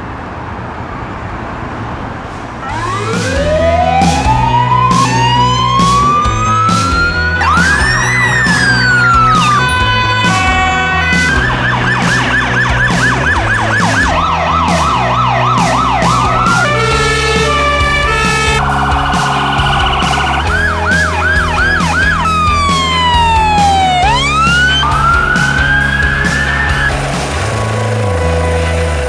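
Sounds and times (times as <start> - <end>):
emergency vehicle sirens: 2.2 - 29.0
background music with beat: 2.7 - 29.0.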